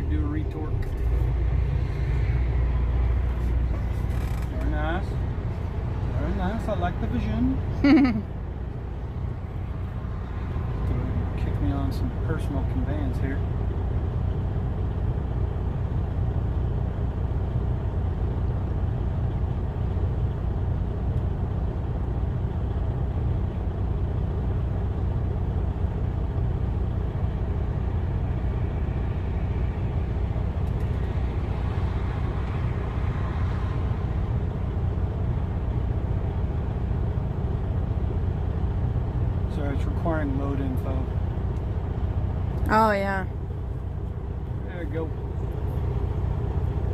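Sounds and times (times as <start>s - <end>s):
truck engine low rumble: 0.0s - 46.9s.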